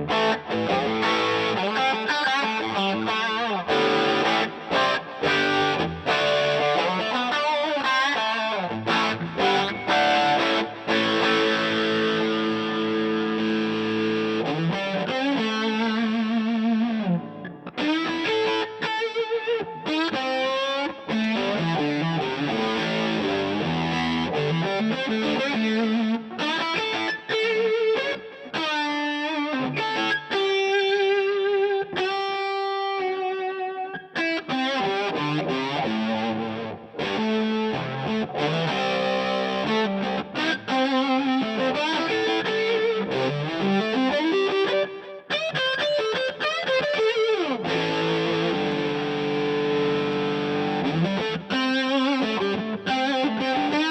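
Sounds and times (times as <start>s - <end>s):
distorted electric guitar: 0.0s - 53.9s.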